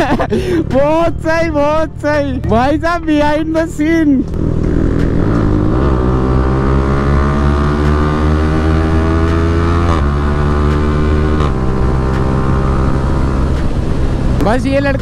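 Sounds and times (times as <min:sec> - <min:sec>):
motorcycle engine accelerating: 0:00.7 - 0:14.6.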